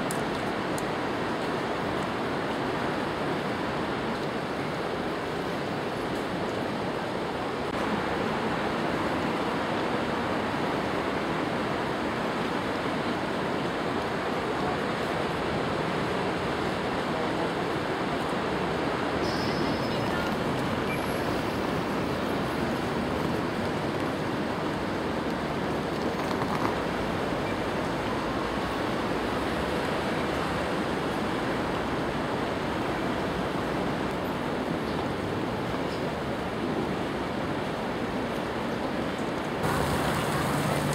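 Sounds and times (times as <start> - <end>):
river water rushing: 0.0 - 25.9, 26.8 - 40.9.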